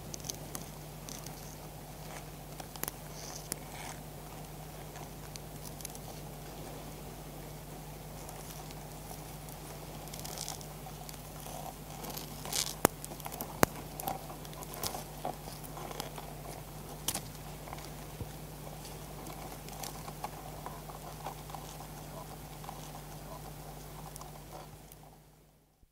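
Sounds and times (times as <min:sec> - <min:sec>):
crab shells creaking and scraping: 0:00.0 - 0:06.4, 0:08.0 - 0:25.2.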